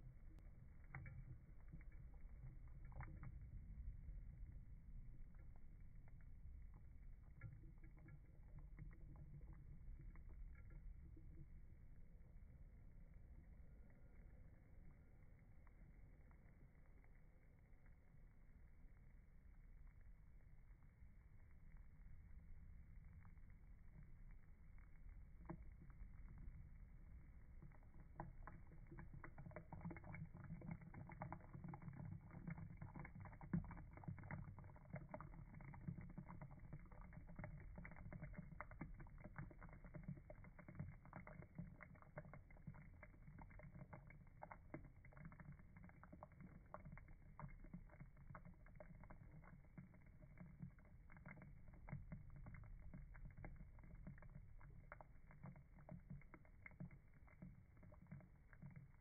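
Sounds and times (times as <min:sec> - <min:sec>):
faint low rumble: 0:00.0 - 0:59.0
soft clicks and ticks: 0:00.0 - 0:59.0.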